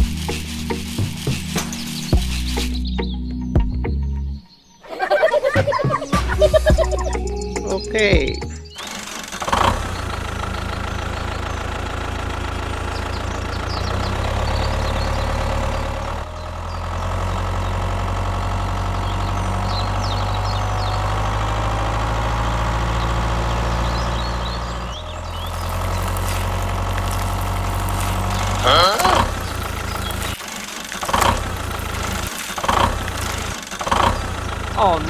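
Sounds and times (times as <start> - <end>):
tractor engine idling: 0.0 - 4.0, 5.1 - 35.0.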